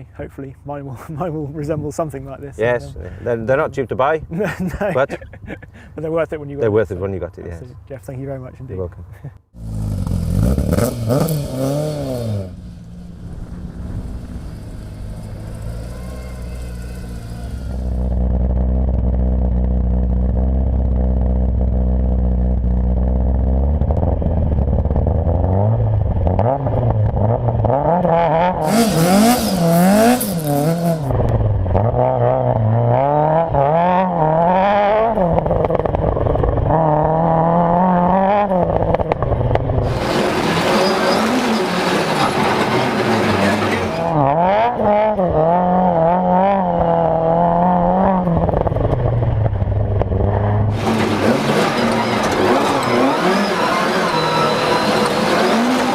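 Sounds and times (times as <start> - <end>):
rally car engine revving: 9.6 - 55.9.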